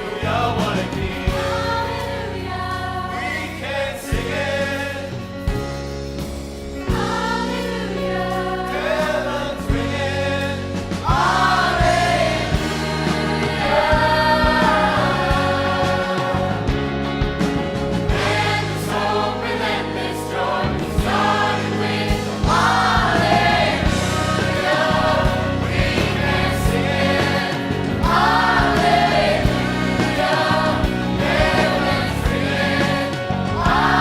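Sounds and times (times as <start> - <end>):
choir singing gospel song: 0.0 - 5.8, 6.8 - 34.0
instrumental accompaniment with beat: 0.0 - 34.0.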